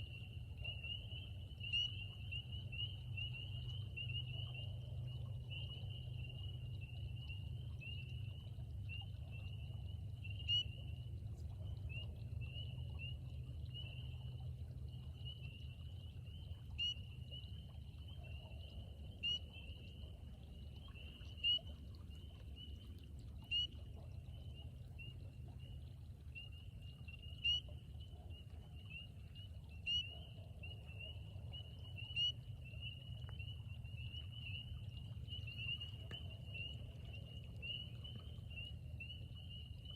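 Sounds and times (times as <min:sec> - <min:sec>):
chorus of peeping frogs: 0:00.0 - 0:39.9
low steady rumble: 0:00.0 - 0:39.9.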